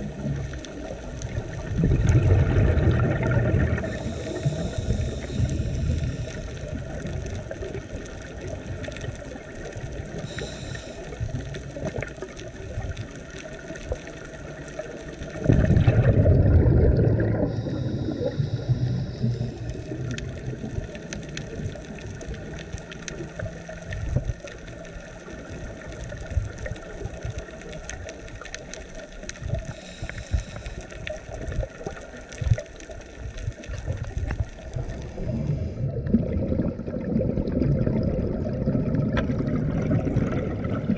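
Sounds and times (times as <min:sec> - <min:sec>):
crackle of small clicks: 0:00.0 - 0:40.9
regulator bubbles gurgling: 0:00.0 - 0:40.9.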